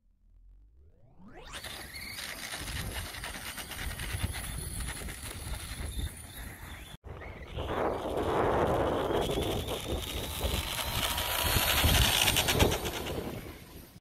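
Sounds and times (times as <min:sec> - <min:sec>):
rc truck motor and tyres: 0:01.1 - 0:14.0
wind buffeting microphone: 0:02.4 - 0:14.0.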